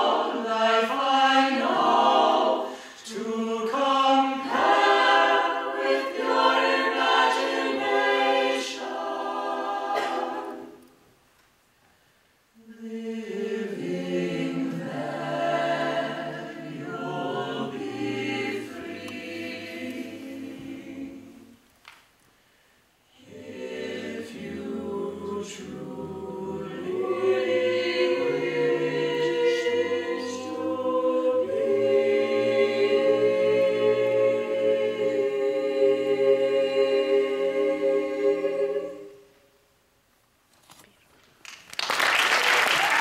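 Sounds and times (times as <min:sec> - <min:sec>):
a cappella group singing: 0:00.0 - 0:11.0, 0:12.6 - 0:21.6, 0:23.1 - 0:39.3.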